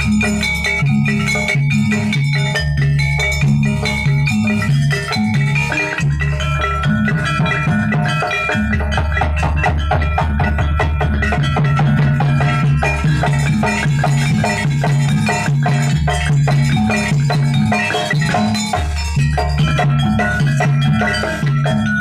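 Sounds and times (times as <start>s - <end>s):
drums: 0.0s - 22.0s
struck metal percussion: 0.0s - 22.0s.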